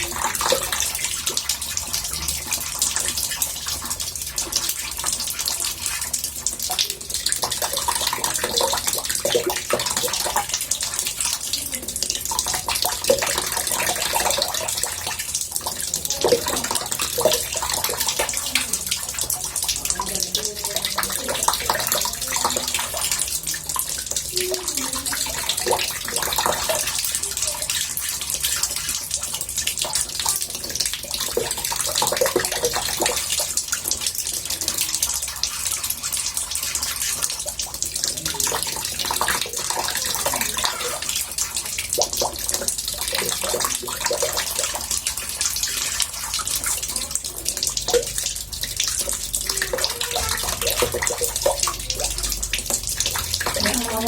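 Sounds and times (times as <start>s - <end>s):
small bubbling sounds: 0.0s - 54.0s
water running into bathtub: 0.0s - 54.0s.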